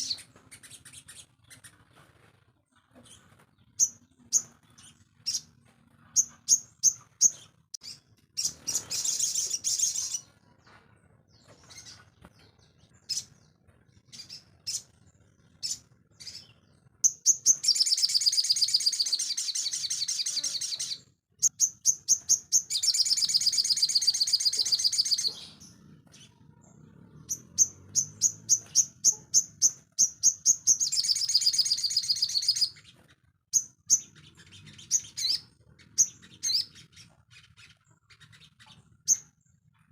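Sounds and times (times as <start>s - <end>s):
songbird chirping and chattering: 2.9s - 10.4s, 11.4s - 39.9s.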